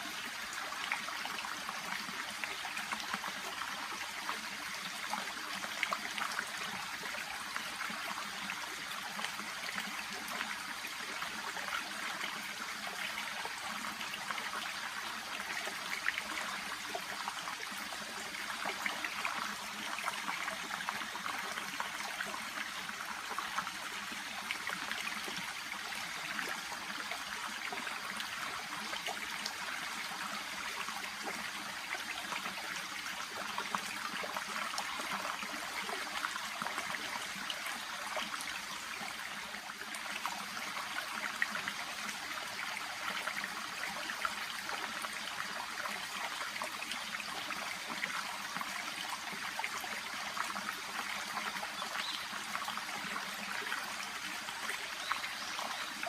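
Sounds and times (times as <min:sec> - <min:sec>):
brook babbling: 0:00.0 - 0:56.0.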